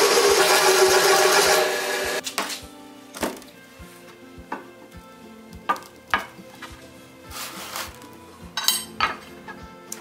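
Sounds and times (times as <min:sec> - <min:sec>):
background music with steady beat: 0:00.9 - 0:10.0.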